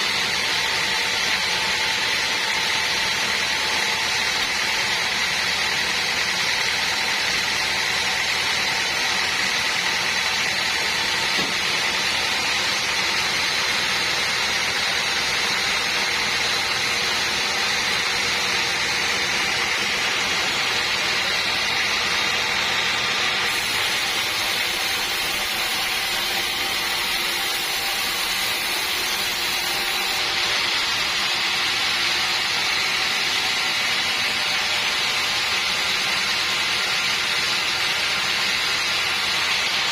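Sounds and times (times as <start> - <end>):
band saw whining: 0.0 - 39.9.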